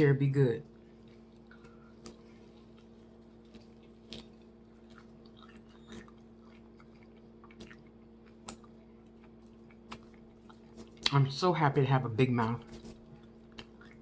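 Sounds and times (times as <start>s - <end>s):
low electrical hum: 0.0s - 14.0s
chewing crunchy food: 0.6s - 11.3s, 12.4s - 14.0s.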